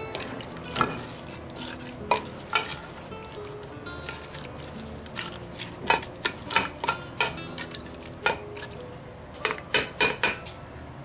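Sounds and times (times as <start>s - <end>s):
ladle scraping and knocking pot: 0.0s - 8.8s.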